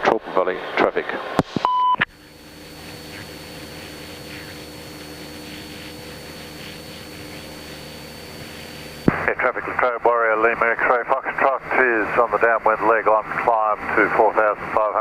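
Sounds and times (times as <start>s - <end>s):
light aircraft engine droning: 2.0s - 15.0s.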